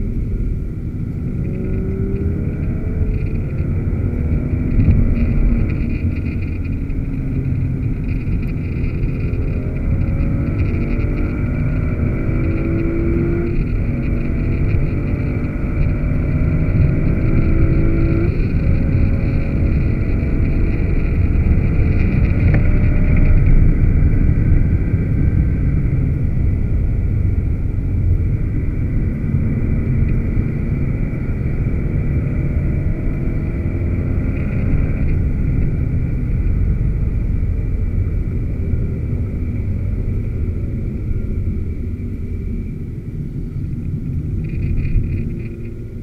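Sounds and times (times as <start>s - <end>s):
car engine drone inside cabin: 0.0s - 46.0s
tyre and road noise: 0.0s - 46.0s.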